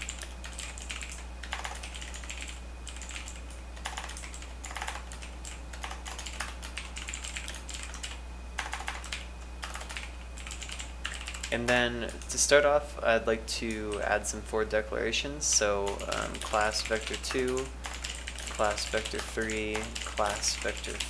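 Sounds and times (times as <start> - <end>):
keyboard typing: 0.0 - 12.4, 15.5 - 21.0
steady low hum: 0.0 - 21.0.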